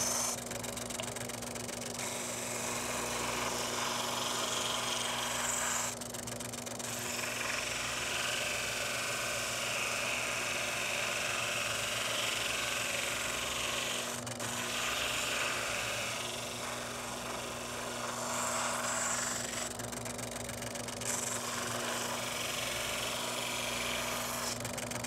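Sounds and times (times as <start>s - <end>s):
drill press motor humming: 0.0s - 25.0s.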